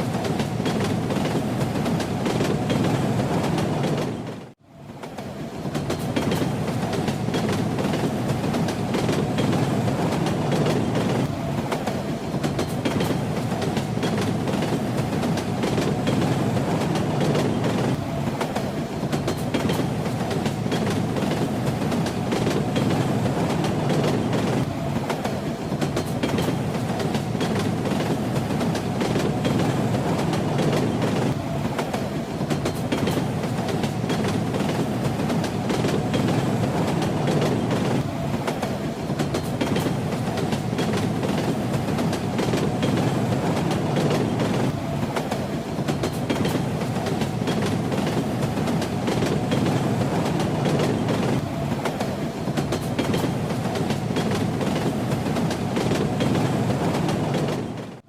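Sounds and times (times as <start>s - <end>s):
train wheels clattering: 0.0s - 58.0s.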